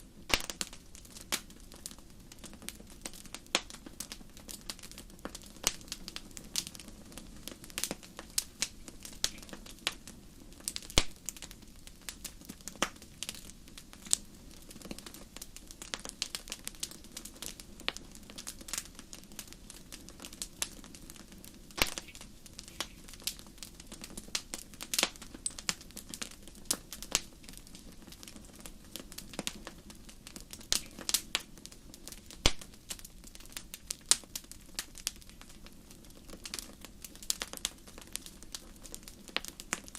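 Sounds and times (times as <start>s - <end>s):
low rush of burning: 0.0s - 39.9s
wood fire crackling: 0.0s - 39.9s.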